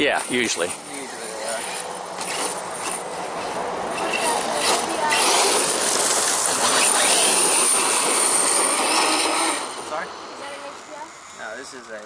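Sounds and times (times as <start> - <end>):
radio-controlled car whining: 0.2 - 12.0.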